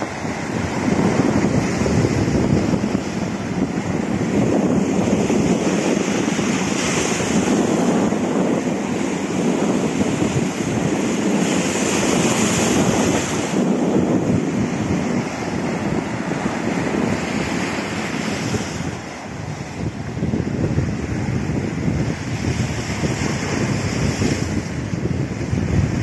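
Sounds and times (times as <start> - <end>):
sea surf breaking on rocks: 0.0 - 26.0
wind buffeting microphone: 0.0 - 26.0.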